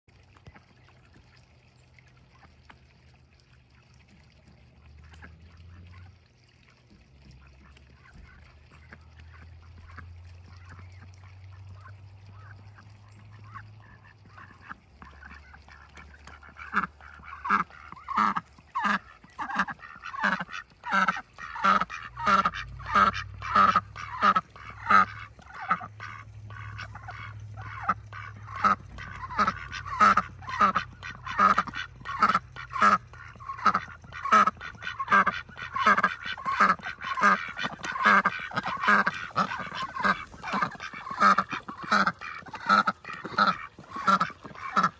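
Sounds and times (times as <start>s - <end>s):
low steady hum: 0.1s - 44.9s
ducks quacking: 7.4s - 44.9s.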